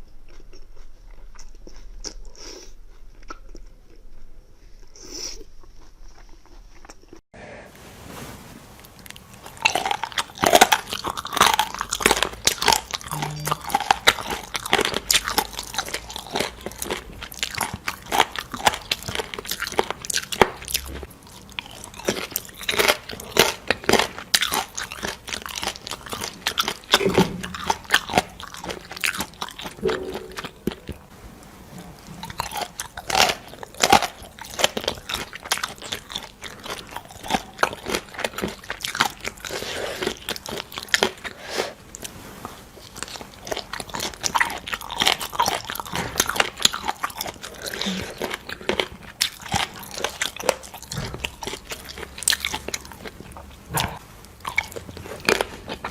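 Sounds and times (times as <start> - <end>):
person chewing crunchy food: 0.0 - 7.2, 9.0 - 31.1, 31.8 - 55.9.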